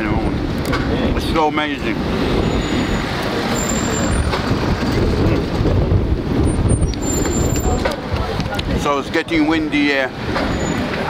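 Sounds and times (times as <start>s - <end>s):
traffic rumble: 0.0s - 11.0s
wind buffeting microphone: 0.0s - 11.0s.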